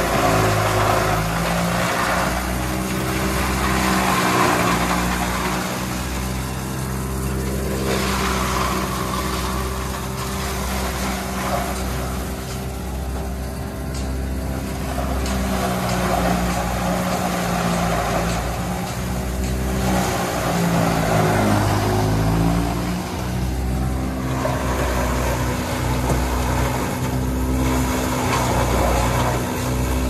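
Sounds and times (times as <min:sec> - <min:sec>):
machine chopping corn stalks: 0:00.0 - 0:30.0
tractor engine running: 0:00.0 - 0:30.0.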